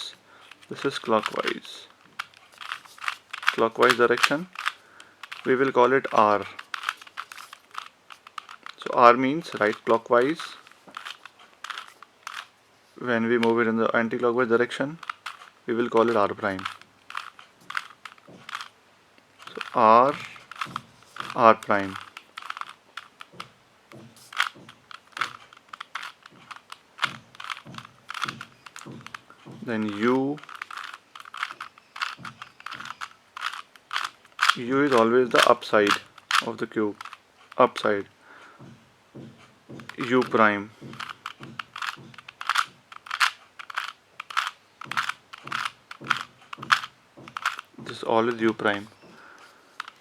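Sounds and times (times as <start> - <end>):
plastic puzzle cube clicking: 0.0 - 38.1, 39.6 - 50.0.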